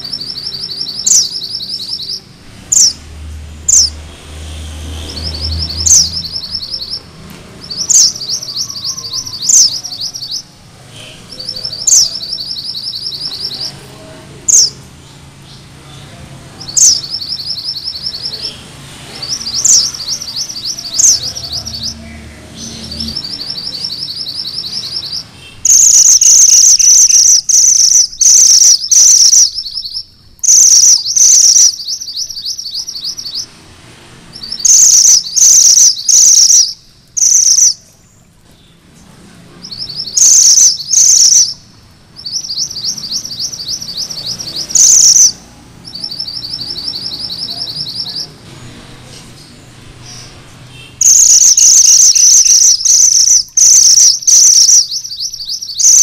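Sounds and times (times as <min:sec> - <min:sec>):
bird singing rolling trills: 0:00.0 - 0:04.0, 0:04.9 - 0:33.7, 0:34.3 - 0:38.8, 0:39.6 - 0:48.5, 0:51.0 - 0:56.0.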